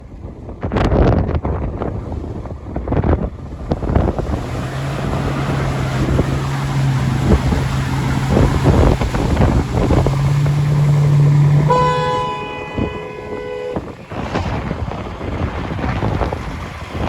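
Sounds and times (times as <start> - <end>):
wind buffeting microphone: 0.0 - 17.0
engine running under load: 1.5 - 17.0.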